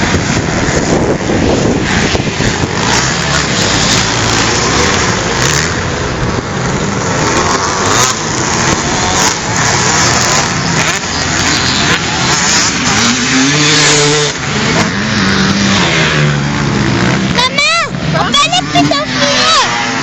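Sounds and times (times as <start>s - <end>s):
engine revving: 0.0s - 20.0s
motocross motorcycle engines: 0.0s - 20.0s.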